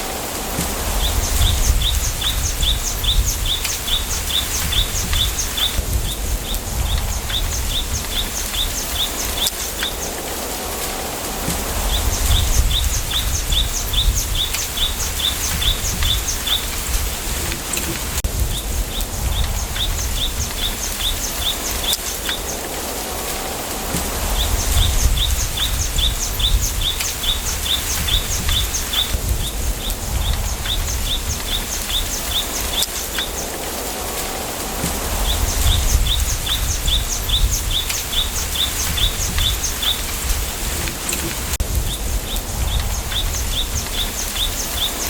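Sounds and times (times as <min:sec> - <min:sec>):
low wind rumble: 0:00.0 - 0:45.0
wind rustling bamboo: 0:00.0 - 0:45.0.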